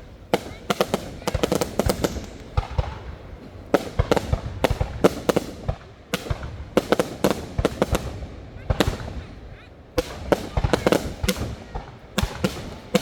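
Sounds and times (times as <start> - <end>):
fireworks bangs and cracks: 0.0 - 13.0
low rumble of distant bursts: 0.0 - 13.0.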